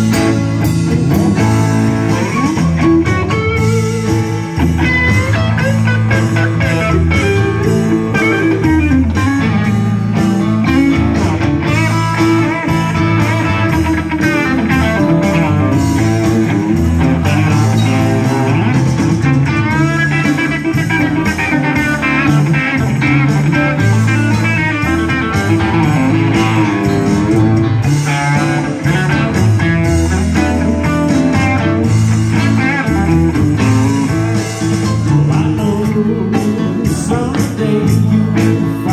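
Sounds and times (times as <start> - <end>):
bass guitar: 0.0 - 38.9
drums: 0.0 - 38.9
electric guitar lead: 0.0 - 38.9.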